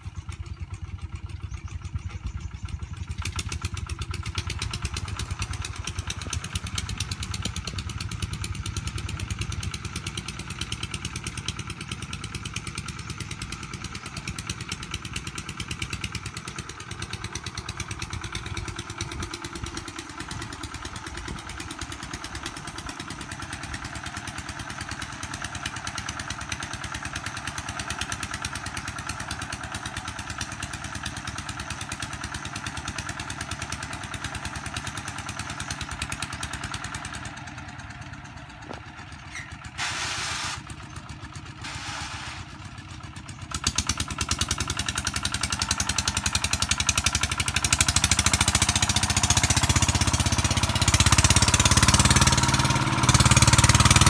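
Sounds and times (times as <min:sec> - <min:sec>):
diesel engine chugging: 0:00.0 - 0:54.0.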